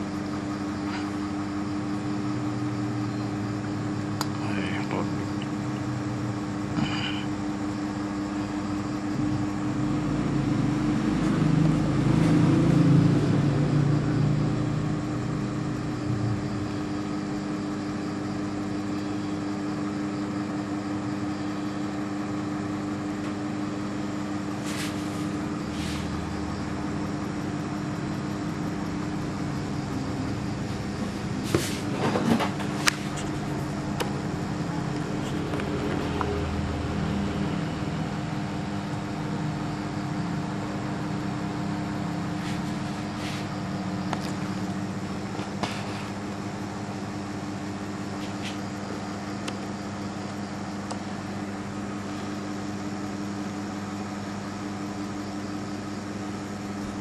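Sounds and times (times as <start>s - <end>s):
steady background hum: 0.0s - 57.0s.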